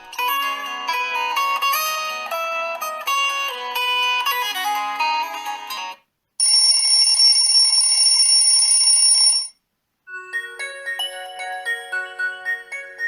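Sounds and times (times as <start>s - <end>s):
ringtone melody: 0.0s - 9.5s, 10.1s - 13.0s.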